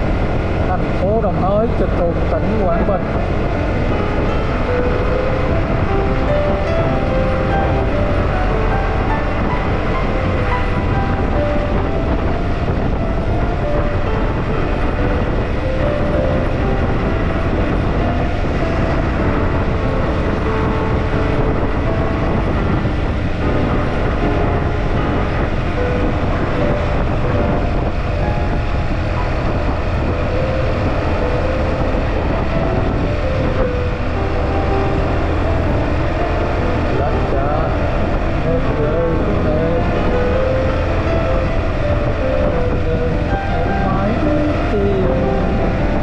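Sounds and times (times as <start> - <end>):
motorcycle engine: 0.0 - 46.0
road noise: 0.0 - 46.0
wind rush on microphone: 0.0 - 46.0.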